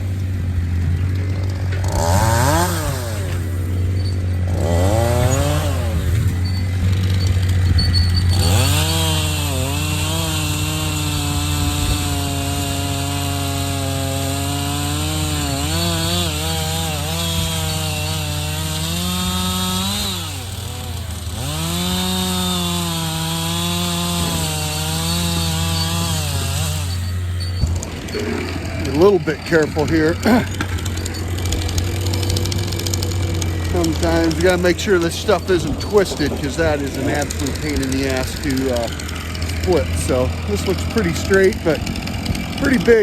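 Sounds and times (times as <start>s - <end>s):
chainsaw cutting log: 0.0s - 43.0s.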